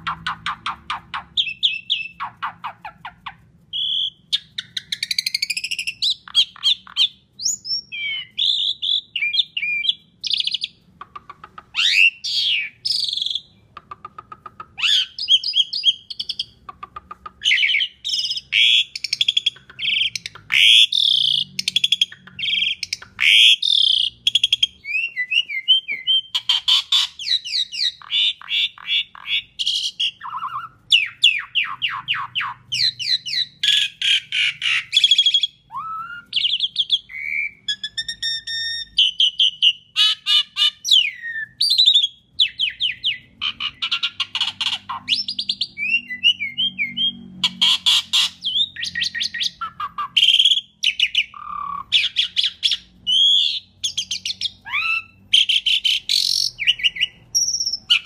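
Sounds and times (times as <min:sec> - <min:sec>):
starling singing varied song: 0:00.0 - 0:13.7, 0:17.4 - 0:58.0.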